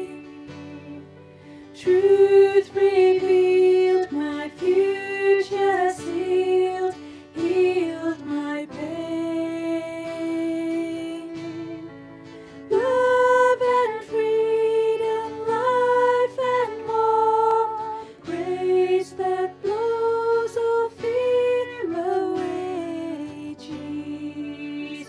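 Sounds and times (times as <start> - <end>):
group singing a slow song: 0.0 - 1.2, 1.8 - 11.9, 12.7 - 25.0
sustained instrumental accompaniment: 0.0 - 25.0.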